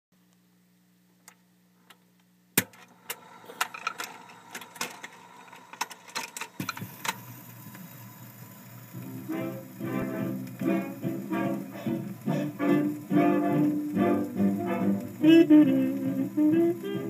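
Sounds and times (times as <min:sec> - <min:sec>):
record surface crackle and pops: 0:00.2 - 0:17.0.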